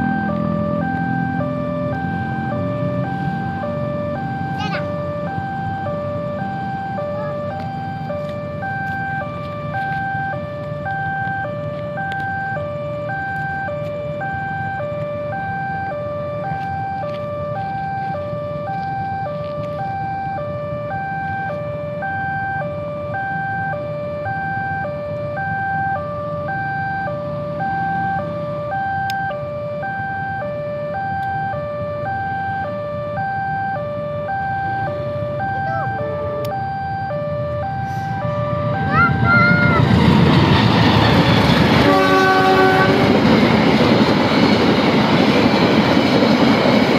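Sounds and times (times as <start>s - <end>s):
level crossing two-tone alarm: 0.0s - 46.9s
low rumble of traffic: 0.0s - 46.9s.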